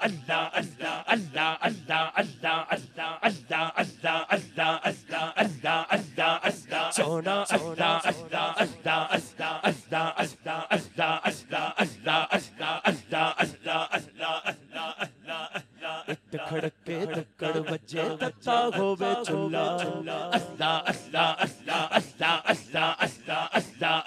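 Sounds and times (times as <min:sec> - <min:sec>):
man chanting over a microphone: 0:00.0 - 0:24.0.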